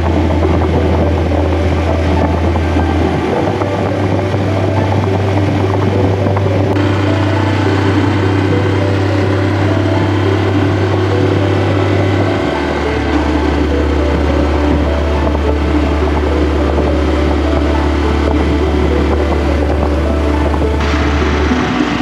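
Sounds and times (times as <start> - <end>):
motorcycle engine running: 0.0 - 22.0
wind noise: 0.0 - 22.0.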